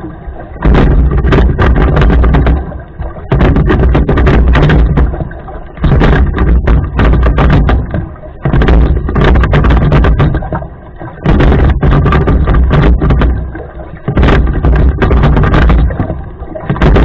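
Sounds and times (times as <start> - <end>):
rowing strokes knocking and rushing: 0.0 - 17.0.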